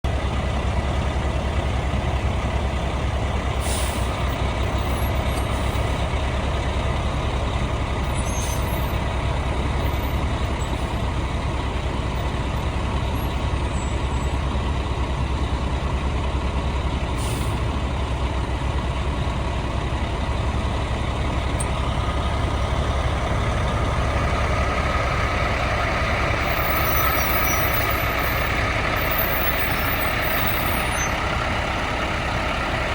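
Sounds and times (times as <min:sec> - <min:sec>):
truck diesel engine idling: 0:00.0 - 0:32.9.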